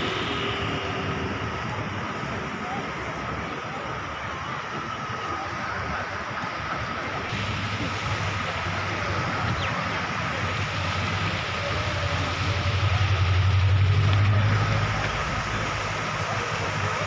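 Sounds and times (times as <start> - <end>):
heavy vehicle low rumble: 0.0 - 17.0
street traffic: 0.0 - 17.0.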